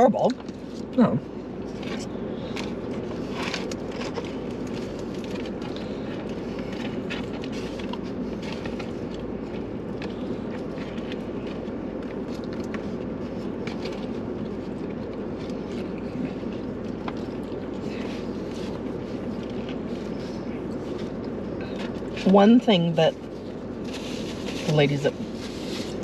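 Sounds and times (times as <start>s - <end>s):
low hum inside a car: 0.0s - 26.0s.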